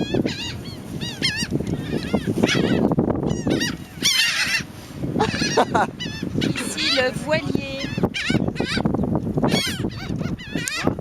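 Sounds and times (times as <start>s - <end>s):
gulls squawking: 0.0s - 11.0s.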